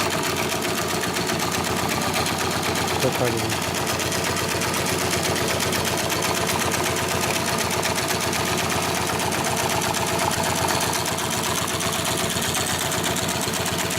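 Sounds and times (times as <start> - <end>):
sewing machine stitching: 0.0 - 13.9.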